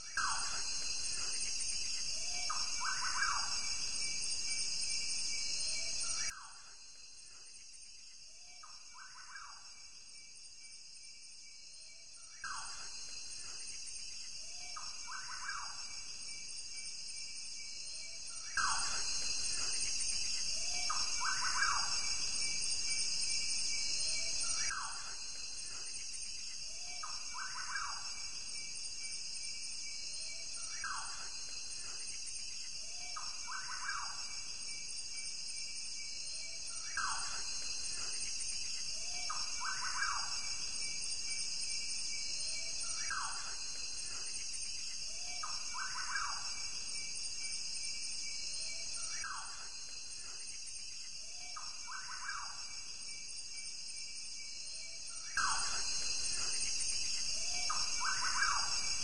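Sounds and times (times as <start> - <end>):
insect chorus chirring: 0.0 - 59.0.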